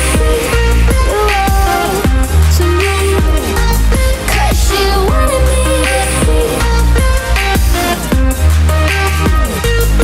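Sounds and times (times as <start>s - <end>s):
song with heavy bass and drums: 0.0s - 10.0s.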